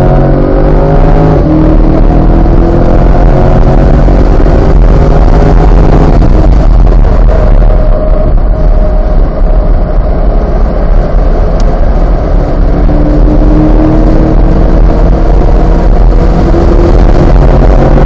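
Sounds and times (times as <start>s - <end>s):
car engine running hard: 0.0s - 18.0s
wind and road noise: 0.0s - 18.0s.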